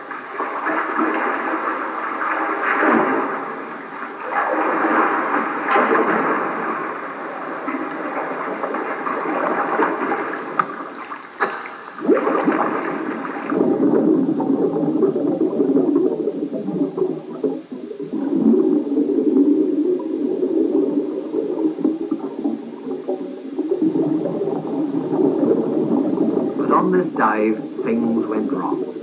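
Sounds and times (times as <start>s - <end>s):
underwater bubbling rumble: 0.0s - 29.0s.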